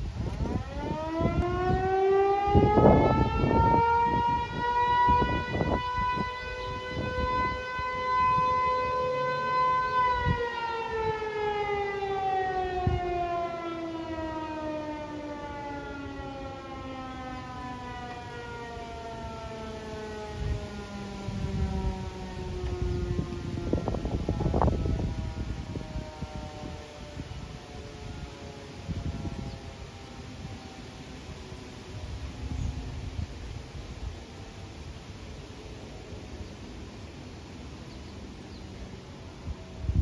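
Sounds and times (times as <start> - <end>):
wind gusts on microphone: 0.0 - 13.4, 18.0 - 36.9, 38.1 - 40.0.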